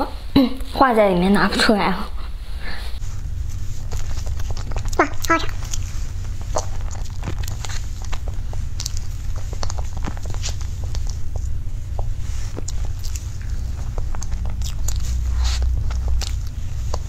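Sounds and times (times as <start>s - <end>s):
steady low hum: 0.0s - 17.0s
chewing dessert: 3.0s - 17.0s.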